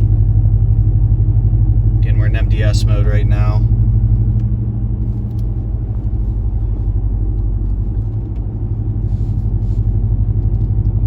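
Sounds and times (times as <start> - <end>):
exhaust drone inside truck cab: 0.0 - 11.0.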